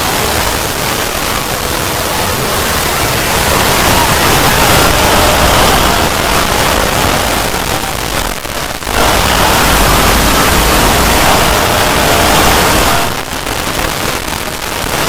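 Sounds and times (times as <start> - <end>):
harsh static noise: 0.0 - 15.0.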